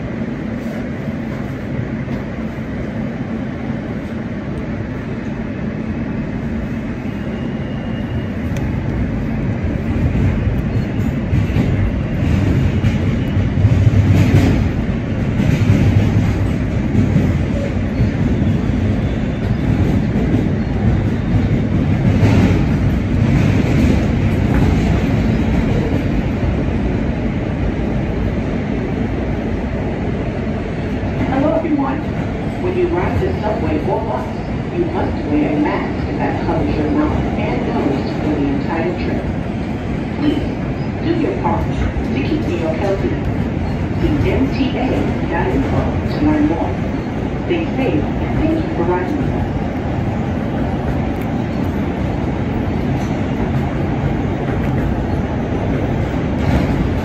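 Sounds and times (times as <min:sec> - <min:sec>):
subway train wheels rumbling: 0:00.0 - 0:57.0
train rattles: 0:00.0 - 0:57.0.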